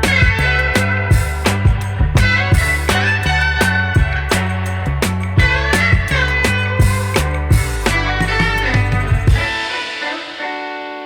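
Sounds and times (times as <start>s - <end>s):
bass and drums: 0.0s - 10.7s
held guitar notes ringing: 0.0s - 11.0s.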